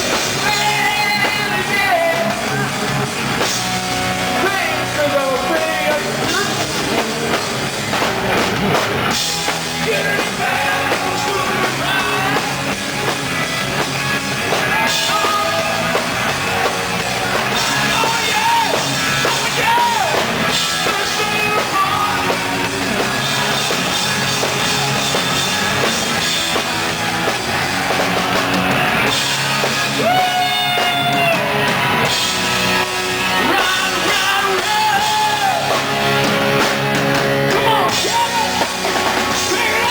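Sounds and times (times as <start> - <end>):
hard rock band playing: 0.0 - 39.9.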